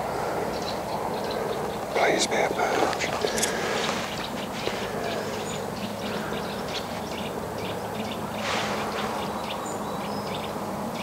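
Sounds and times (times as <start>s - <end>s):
soft rush of noise: 0.0s - 10.9s
small birds chirping: 0.0s - 11.0s.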